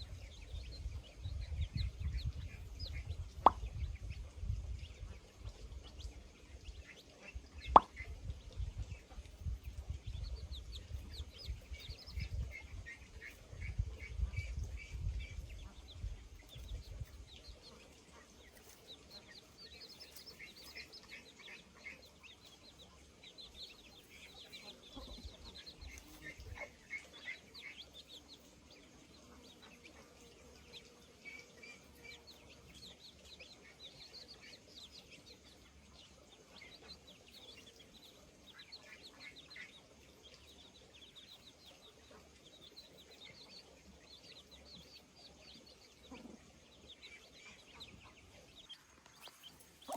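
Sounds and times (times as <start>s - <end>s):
faint birds chirping: 0.0s - 49.9s.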